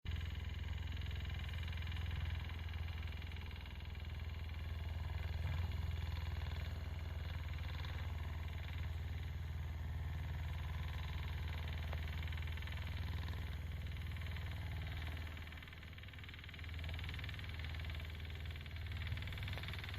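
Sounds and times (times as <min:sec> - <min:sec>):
noisy machine whir: 0:00.1 - 0:19.9.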